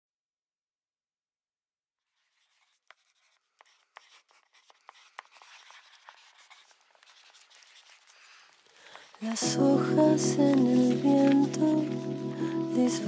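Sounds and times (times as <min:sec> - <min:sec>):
faint crackling rustling: 0:02.2 - 0:13.0.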